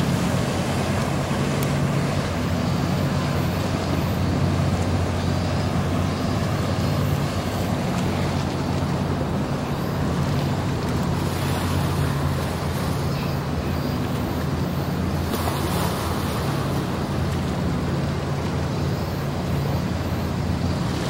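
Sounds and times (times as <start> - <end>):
boat engine droning: 0.0 - 21.0
choppy water washing: 0.0 - 21.0.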